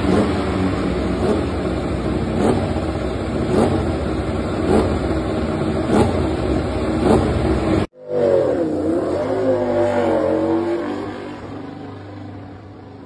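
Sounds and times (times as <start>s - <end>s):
engine running with wavering pitch: 0.0s - 13.0s
motorcycle engine revving: 0.0s - 13.0s.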